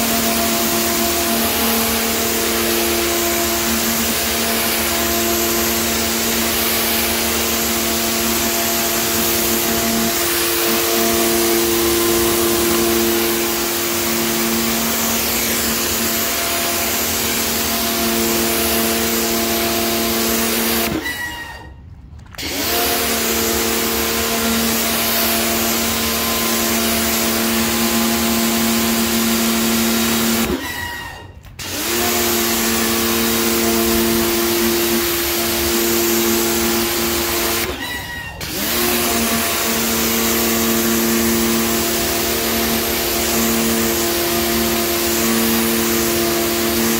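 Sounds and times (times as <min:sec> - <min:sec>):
water jet hissing on tiles: 0:00.0 - 0:21.0, 0:22.6 - 0:30.6, 0:31.6 - 0:37.7, 0:38.4 - 0:46.9
pressure washer motor humming: 0:00.0 - 0:21.6, 0:22.3 - 0:46.9.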